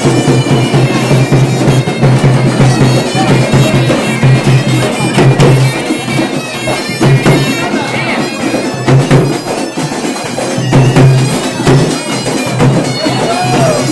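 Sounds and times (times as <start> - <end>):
drum strokes: 0.0 - 13.9
reedy wind instrument melody: 0.0 - 13.9.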